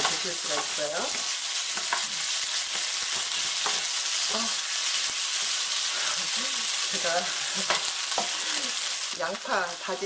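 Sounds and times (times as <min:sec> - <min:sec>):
fried rice sizzling in a pan: 0:00.0 - 0:10.0.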